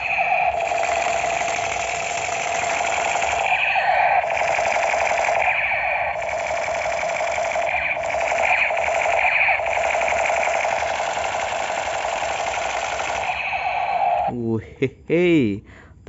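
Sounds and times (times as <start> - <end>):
toy gun electronic rattle: 0.0 - 14.3.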